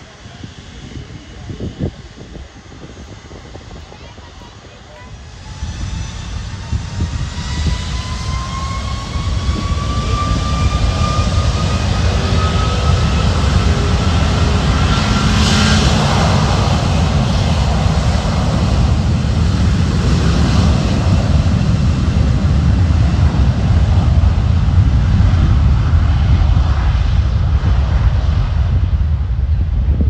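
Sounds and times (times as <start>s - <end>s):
jet engines at takeoff power: 0.0s - 30.0s.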